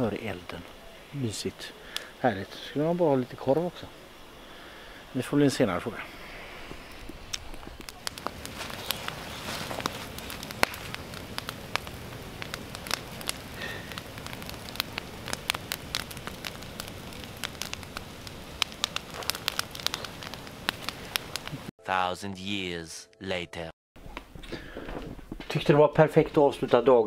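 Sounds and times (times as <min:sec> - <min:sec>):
bonfire crackling and popping: 0:00.0 - 0:21.7
fire hissing: 0:00.0 - 0:21.7.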